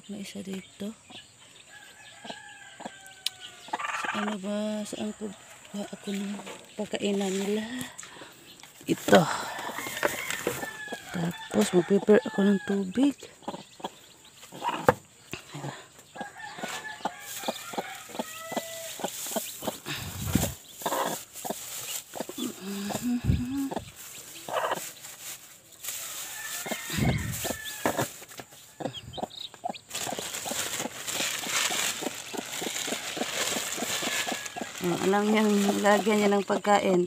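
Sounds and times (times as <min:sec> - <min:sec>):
chicks peeping: 0:00.1 - 0:37.0
hen clucking: 0:02.1 - 0:08.3, 0:08.9 - 0:25.1, 0:25.8 - 0:37.0.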